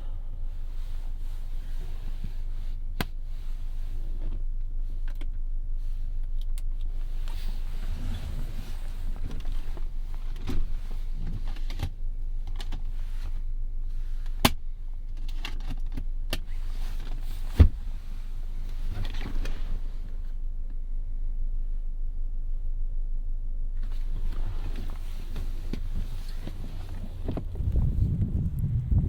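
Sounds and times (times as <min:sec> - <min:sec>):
car cabin hum: 0:00.0 - 0:29.0.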